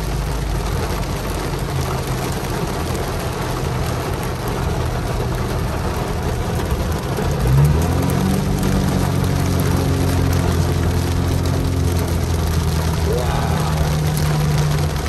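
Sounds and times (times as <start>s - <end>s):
car engine running: 0.0s - 15.0s
heavy rain on car roof: 0.0s - 15.0s.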